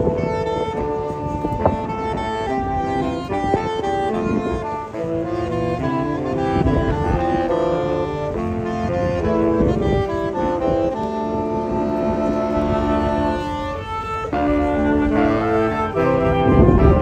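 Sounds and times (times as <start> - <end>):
instrumental melody of held notes: 0.0 - 17.0.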